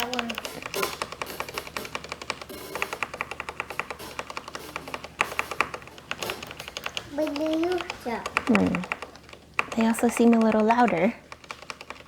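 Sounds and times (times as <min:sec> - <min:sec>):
mechanical keyboard key clacks: 0:00.0 - 0:12.0.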